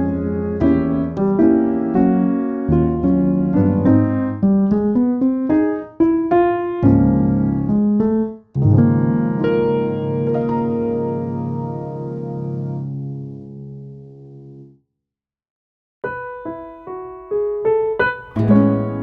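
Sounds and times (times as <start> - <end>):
piano music: 0.0 - 14.8, 16.0 - 19.0.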